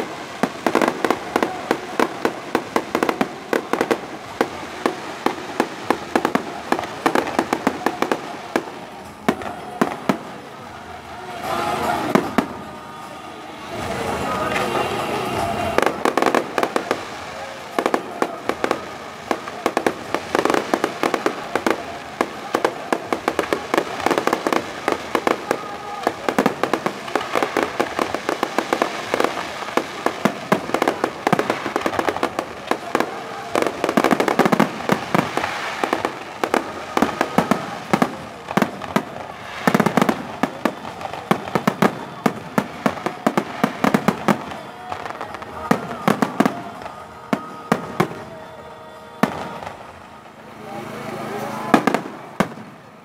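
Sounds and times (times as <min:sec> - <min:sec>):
fireworks crackling and banging: 0:00.0 - 0:53.0.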